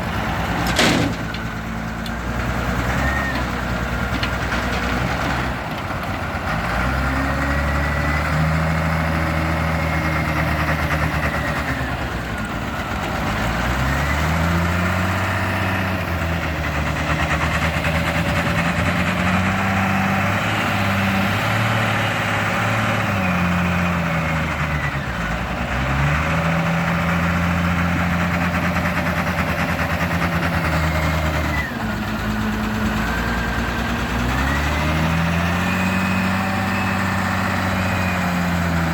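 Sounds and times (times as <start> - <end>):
wheel loader diesel engine revving: 0.0 - 38.9.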